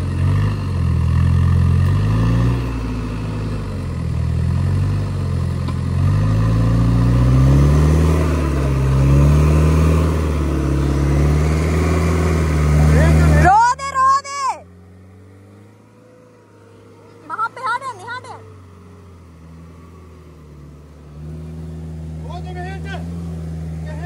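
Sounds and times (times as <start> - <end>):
car engine labouring through mud: 0.0 - 24.0.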